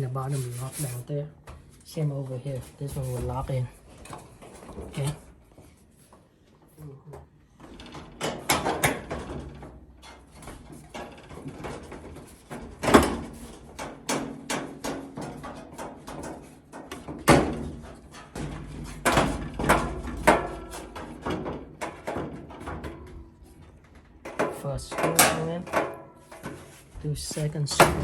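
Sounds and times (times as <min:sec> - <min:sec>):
dryer parts knocking and clattering: 0:00.0 - 0:28.0.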